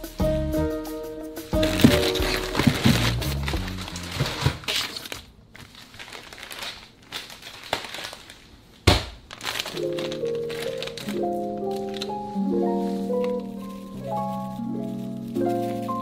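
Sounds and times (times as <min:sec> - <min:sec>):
plastic packets crinkling: 0:01.6 - 0:16.0.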